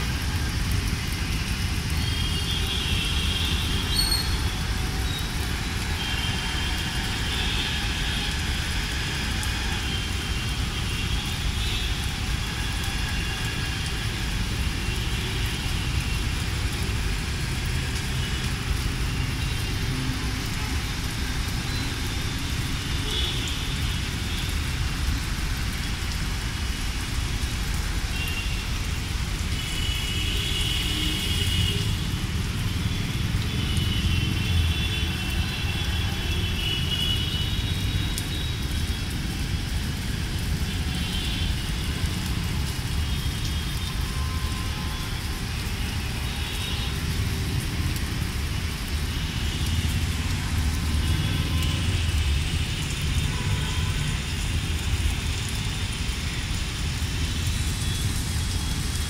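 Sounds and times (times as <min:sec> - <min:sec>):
rain hiss and patter: 0:00.0 - 0:59.0.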